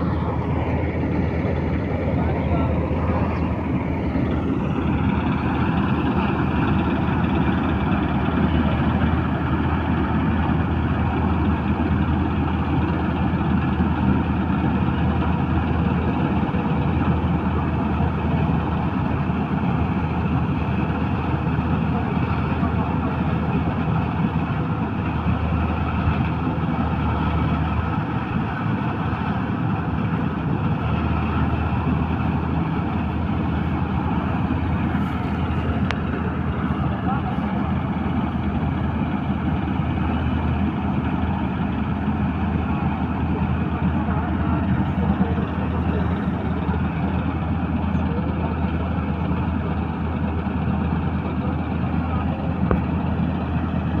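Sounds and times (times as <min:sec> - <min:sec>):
combine harvester engine drone: 0:00.0 - 0:54.0
rush of machinery noise: 0:00.0 - 0:54.0.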